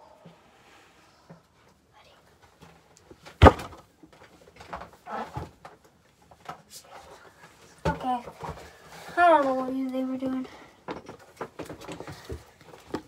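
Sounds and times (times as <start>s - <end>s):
clicks and rustles of handling: 1.6s - 13.0s.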